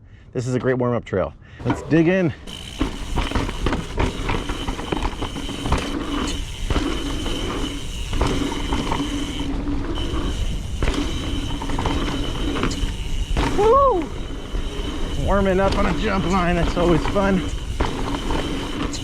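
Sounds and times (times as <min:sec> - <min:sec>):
bike rattling and knocking: 0:01.6 - 0:19.0
bike freehub buzzing: 0:02.2 - 0:19.0.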